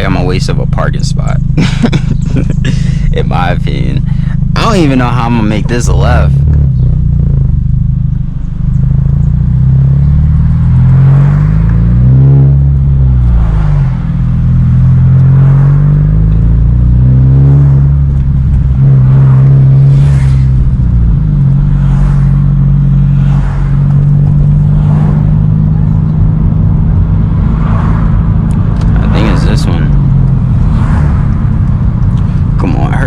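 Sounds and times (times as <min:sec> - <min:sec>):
car engine droning while driving: 0:00.0 - 0:33.0.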